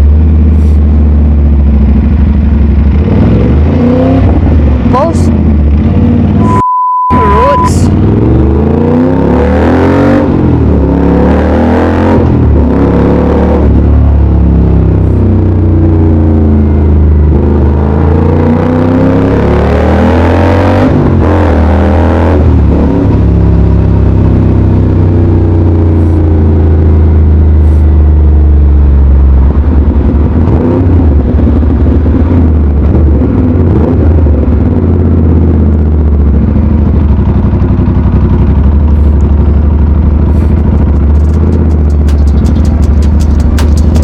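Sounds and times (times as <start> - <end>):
motorcycle engine accelerating: 0.0 - 6.6, 7.2 - 44.0.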